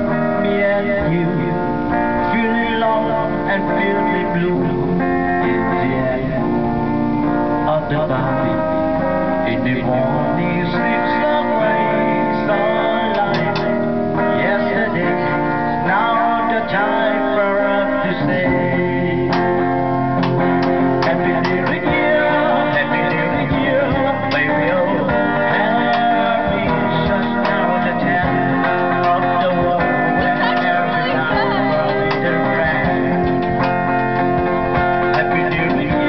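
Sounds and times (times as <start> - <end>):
men singing: 0.0 - 6.5, 7.7 - 36.0
acoustic guitar: 0.0 - 36.0.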